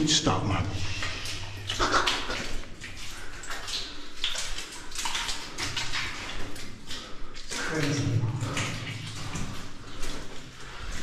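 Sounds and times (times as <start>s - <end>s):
footsteps wading through water: 0.0s - 11.0s.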